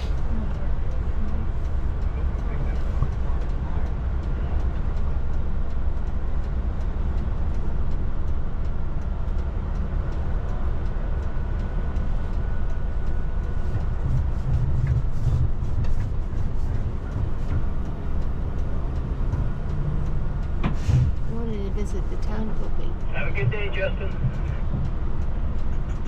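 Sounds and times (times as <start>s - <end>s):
moving vehicle rumble from inside: 0.0s - 26.0s.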